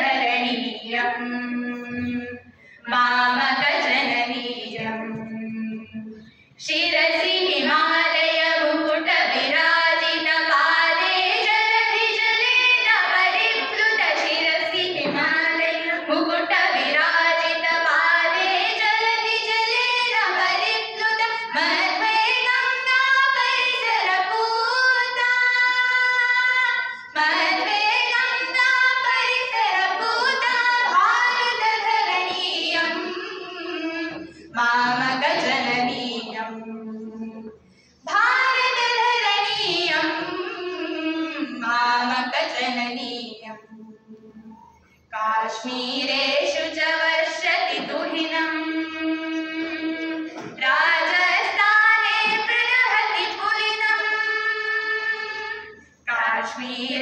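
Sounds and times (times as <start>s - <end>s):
girls singing together: 0.0s - 57.0s.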